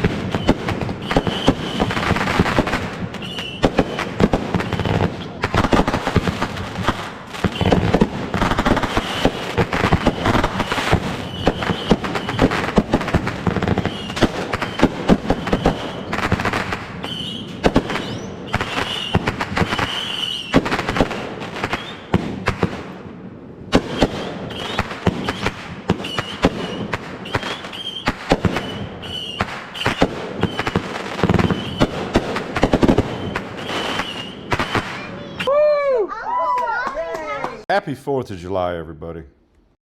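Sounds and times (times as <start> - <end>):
fireworks bangs and crackles: 0.0 - 35.5.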